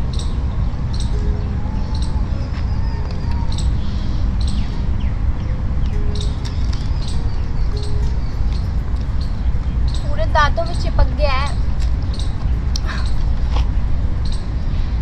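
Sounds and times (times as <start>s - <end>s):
birds chirping: 0.0s - 15.0s
low rumbling noise: 0.0s - 15.0s.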